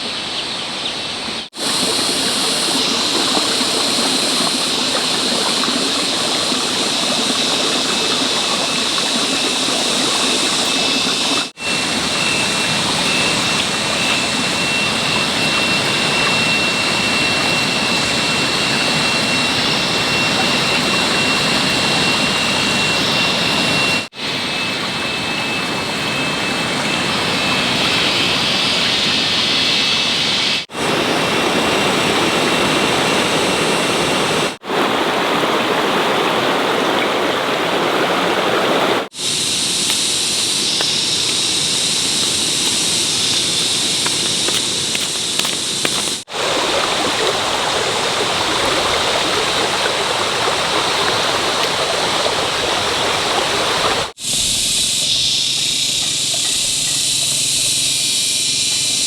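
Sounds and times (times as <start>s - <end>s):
running water rushing: 0.0s - 57.8s.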